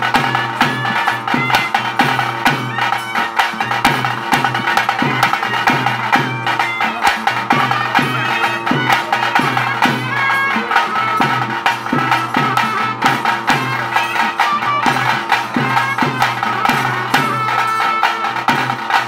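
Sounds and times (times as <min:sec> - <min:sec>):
drums beating steady rhythm: 0:00.0 - 0:19.0
shrill reed pipe melody: 0:00.0 - 0:19.0.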